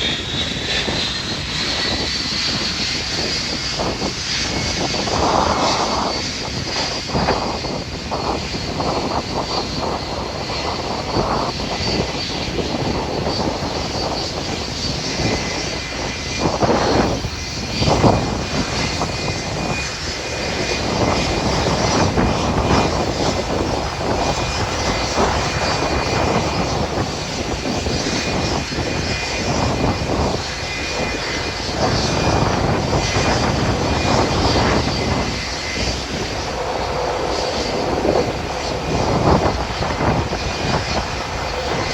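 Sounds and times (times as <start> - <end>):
jet engines rushing with whine: 0.0 - 41.9.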